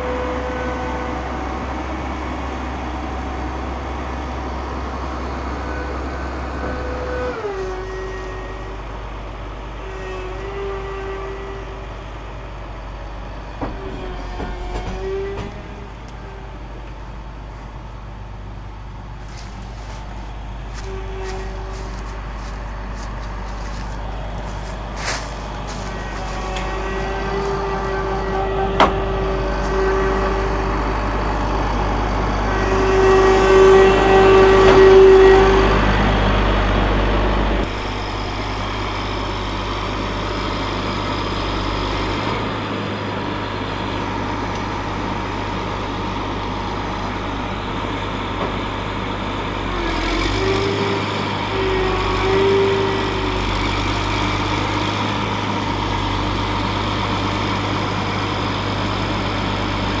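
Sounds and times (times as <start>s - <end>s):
rising high whine: 0.0s - 60.0s
tractor diesel engine running: 0.0s - 60.0s.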